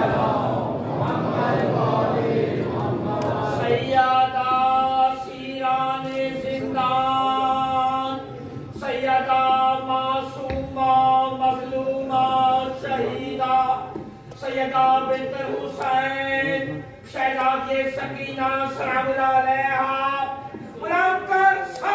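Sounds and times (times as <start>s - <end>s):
crowd chanting: 0.0s - 20.2s.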